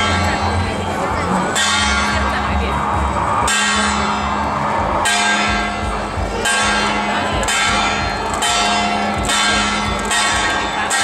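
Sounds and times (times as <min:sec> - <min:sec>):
struck metal percussion ringing: 0:00.0 - 0:11.0.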